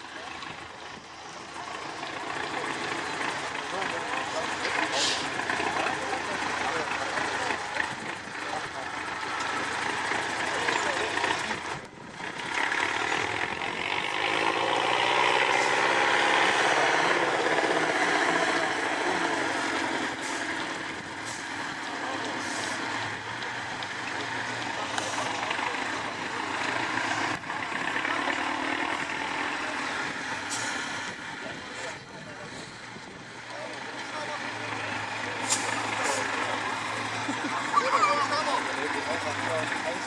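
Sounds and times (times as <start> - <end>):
truck engine running hard: 0.0 - 40.0.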